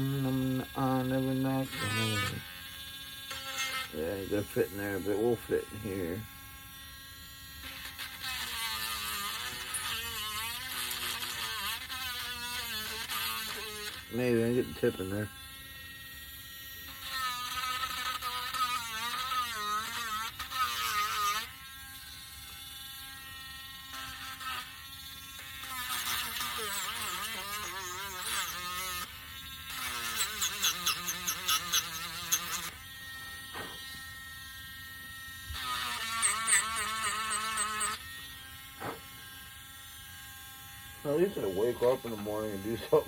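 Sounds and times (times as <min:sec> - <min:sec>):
rotary tool sanding wood: 0:00.0 - 0:06.4, 0:07.0 - 0:15.6, 0:23.6 - 0:43.0.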